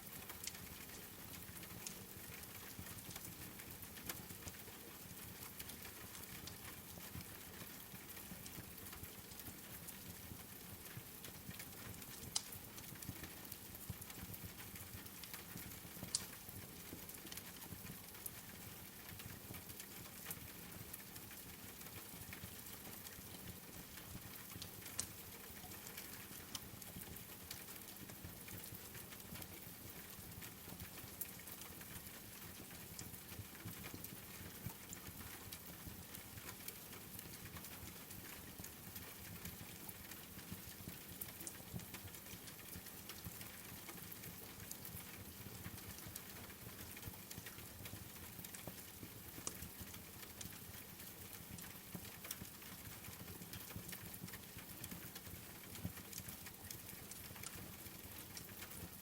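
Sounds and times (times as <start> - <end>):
rain patter: 0.0 - 59.0.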